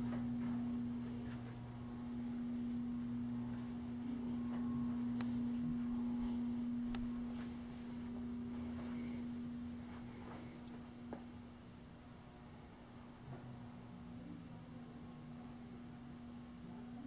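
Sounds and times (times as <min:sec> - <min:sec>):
ceiling fans humming: 0:00.0 - 0:17.0.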